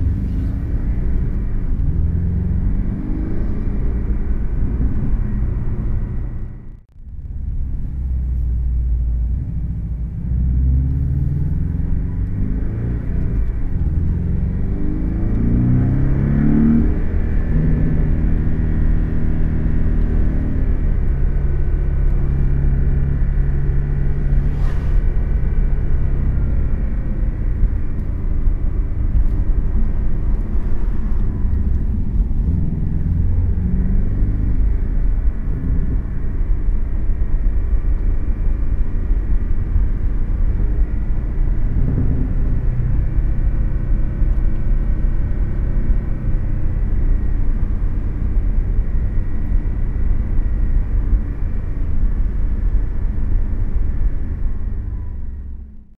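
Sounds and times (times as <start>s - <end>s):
car engine running: 0.0s - 55.9s
tyre and road rumble: 0.0s - 55.9s.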